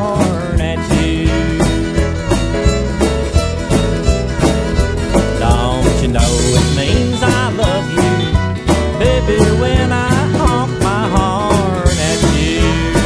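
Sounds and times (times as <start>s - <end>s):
country band instrumental music: 0.0s - 13.0s.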